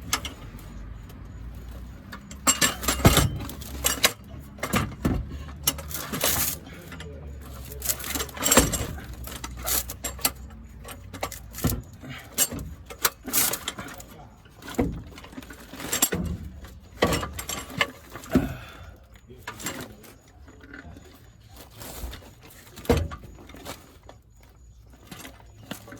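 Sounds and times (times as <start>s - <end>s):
metal tools clinking and knocking: 0.0s - 25.9s.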